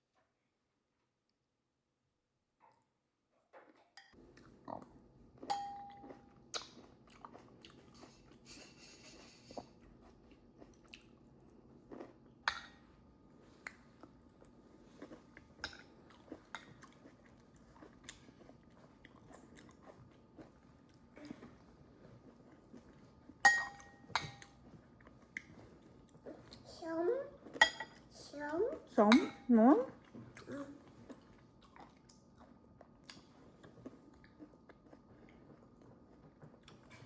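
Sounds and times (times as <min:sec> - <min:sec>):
quiet chewing: 0:03.6 - 0:12.4, 0:13.4 - 0:23.4, 0:24.4 - 0:28.2, 0:29.8 - 0:37.0.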